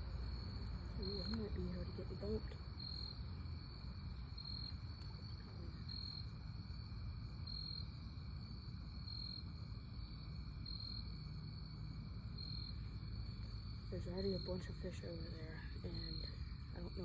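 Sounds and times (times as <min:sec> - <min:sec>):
crickets trilling: 0:00.0 - 0:17.0
low steady rumble: 0:00.0 - 0:17.0.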